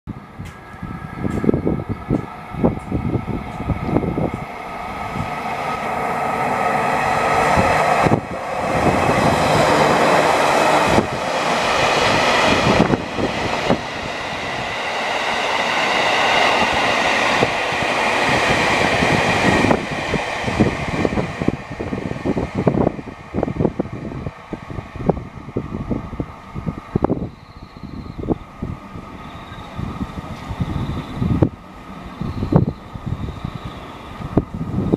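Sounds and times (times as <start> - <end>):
electric train passing with whine: 0.1 - 34.9.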